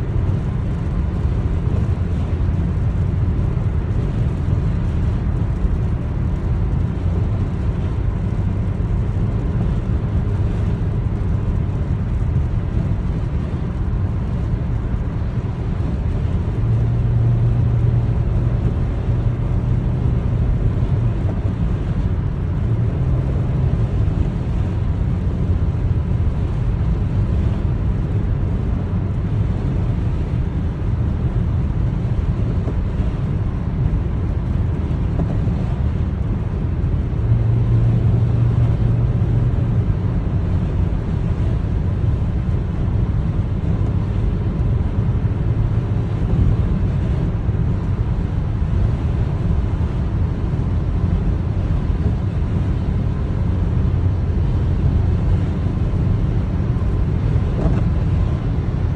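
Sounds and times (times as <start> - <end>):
steady low rumble: 0.0 - 58.9.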